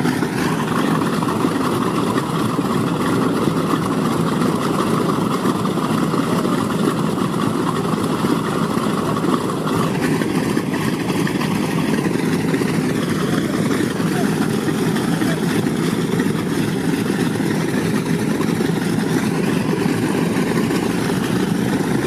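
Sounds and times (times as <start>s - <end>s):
aircraft engines idling: 0.0s - 22.0s.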